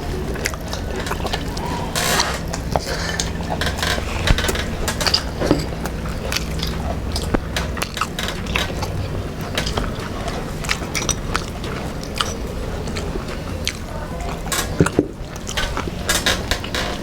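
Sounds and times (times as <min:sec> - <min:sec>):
steady low hum: 0:00.0 - 0:17.0
biting sounds: 0:00.1 - 0:17.0
dishes and cutlery clinking: 0:00.4 - 0:17.0.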